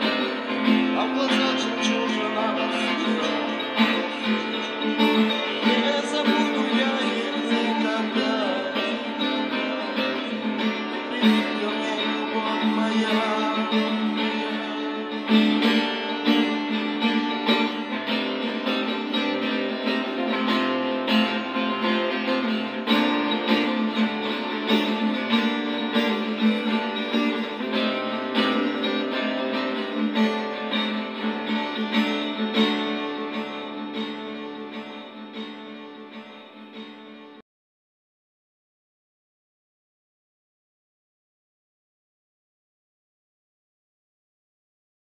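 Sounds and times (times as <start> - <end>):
acoustic guitar strumming: 0.0 - 37.4.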